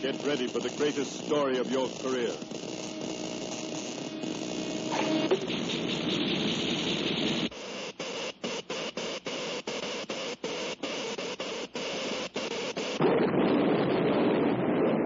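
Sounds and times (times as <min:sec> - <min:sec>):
electrical static hiss and crackle: 0:00.0 - 0:15.0.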